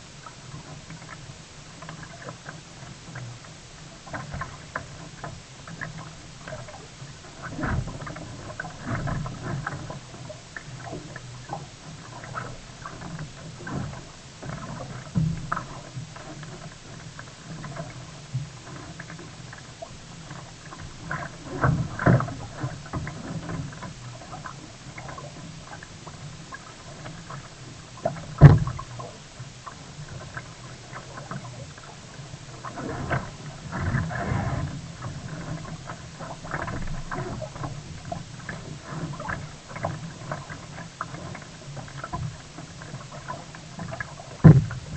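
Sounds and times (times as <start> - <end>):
paddle splashes: 0.0 - 44.9
water sloshing against hull: 0.0 - 44.9.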